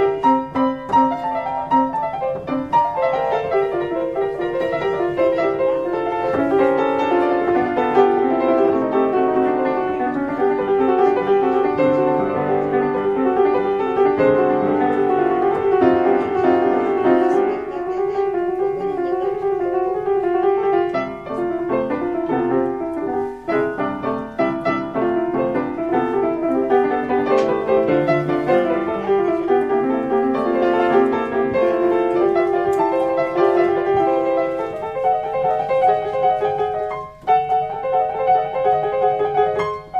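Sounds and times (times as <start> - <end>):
upright piano playing: 0.0 - 39.9.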